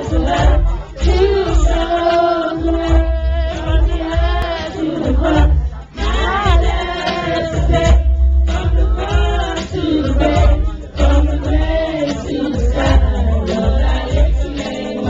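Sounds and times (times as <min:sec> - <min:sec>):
congregation singing a hymn: 0:00.0 - 0:15.0
low drum beat: 0:00.0 - 0:15.0.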